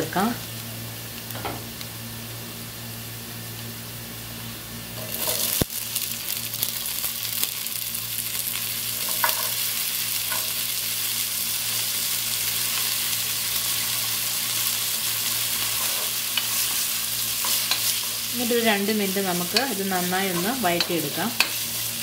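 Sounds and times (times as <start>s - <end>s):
low steady hum: 0.0s - 22.0s
vegetables sizzling in oil: 0.0s - 22.0s.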